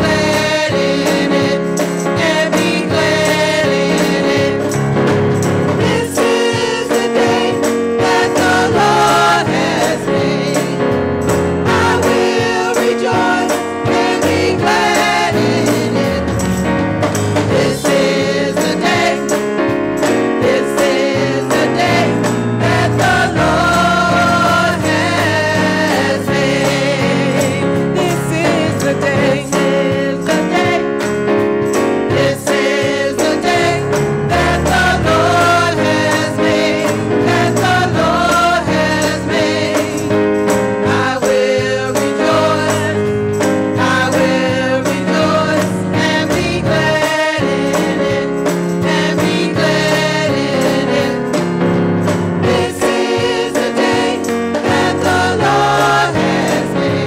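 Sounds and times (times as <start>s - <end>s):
electric guitar: 0.0s - 57.0s
gospel choir singing: 0.0s - 57.0s
live band: 0.0s - 57.0s.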